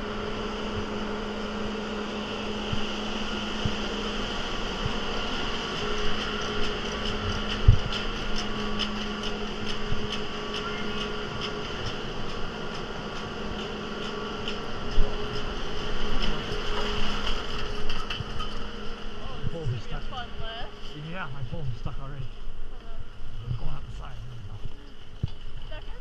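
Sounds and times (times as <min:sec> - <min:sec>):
chairlift machinery humming: 0:00.0 - 0:26.0.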